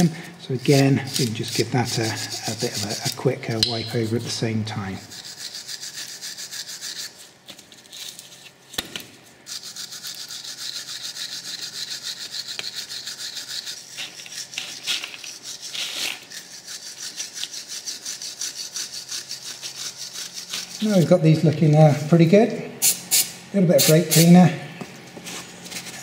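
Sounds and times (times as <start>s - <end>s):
wire brush scrubbing metal: 0.0s - 8.4s, 9.4s - 21.8s, 23.8s - 24.4s.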